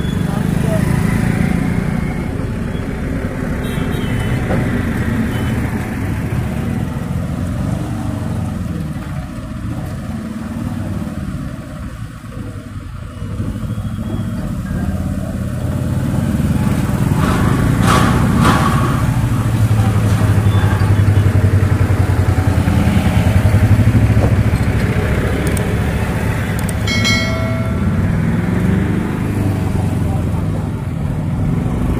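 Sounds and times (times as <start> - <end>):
motorcycles passing: 0.0 - 31.9
truck engines passing: 0.0 - 31.9.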